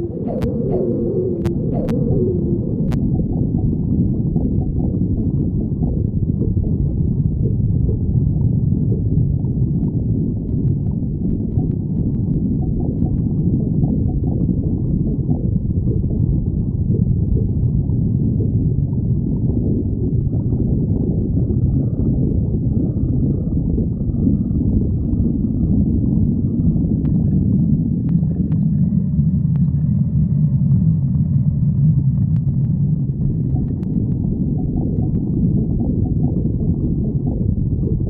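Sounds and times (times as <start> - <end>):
stomach growling: 0.0 - 38.0.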